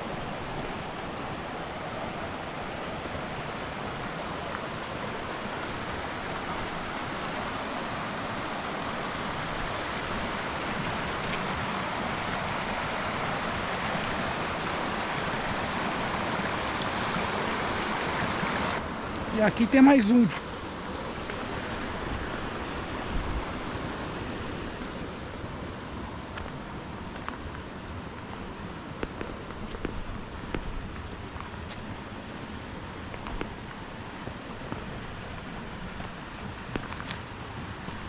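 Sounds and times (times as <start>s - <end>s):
stream running over rocks: 0.0s - 38.0s.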